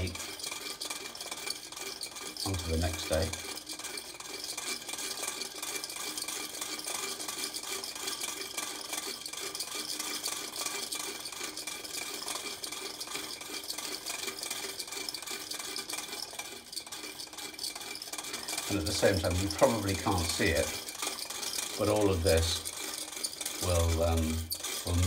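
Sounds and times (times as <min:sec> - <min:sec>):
wooden gears clicking: 0:00.0 - 0:25.0.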